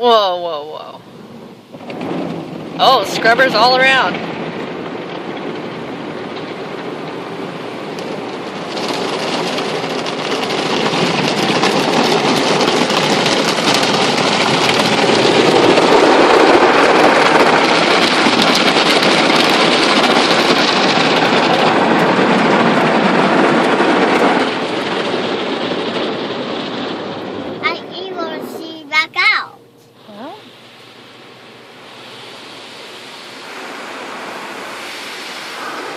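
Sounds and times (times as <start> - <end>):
car wash brushes spinning: 1.2 - 35.9
water spraying: 2.4 - 25.9, 26.6 - 35.9.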